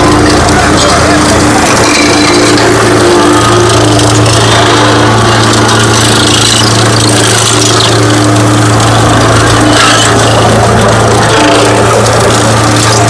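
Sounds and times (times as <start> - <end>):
diesel engine droning: 0.0 - 13.0
steel drum rolling over metal: 0.0 - 13.0.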